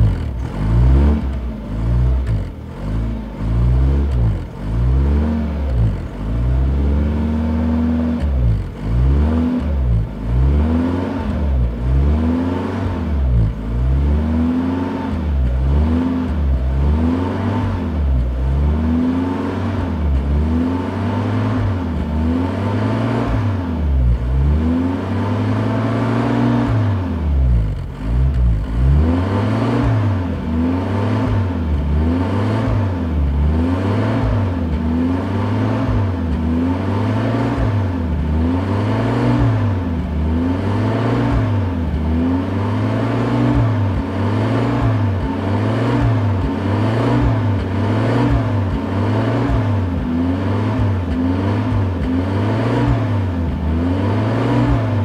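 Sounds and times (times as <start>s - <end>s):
car engine revving in blips: 0.0s - 55.0s.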